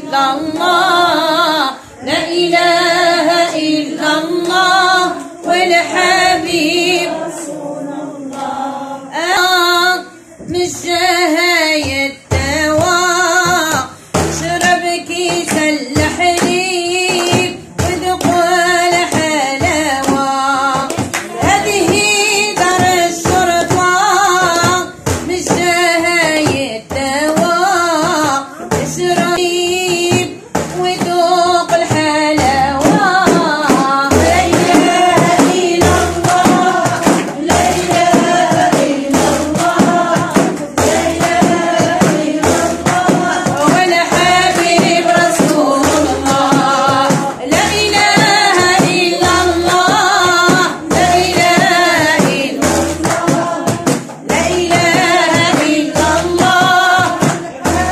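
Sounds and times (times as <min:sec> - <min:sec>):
frame drum beating: 0:00.0 - 0:57.9
woman chanting: 0:00.0 - 0:57.9.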